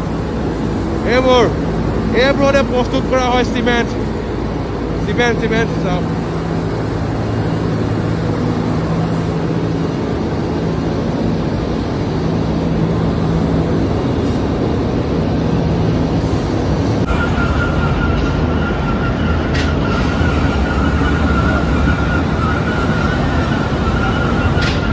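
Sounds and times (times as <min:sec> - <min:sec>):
industrial machinery roar: 0:00.0 - 0:24.9
machine high whine: 0:00.0 - 0:24.9.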